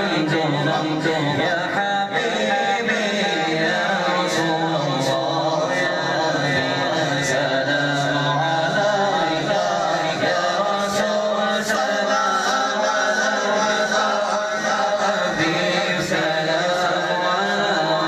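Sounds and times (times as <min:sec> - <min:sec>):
men chanting: 0:00.0 - 0:18.0.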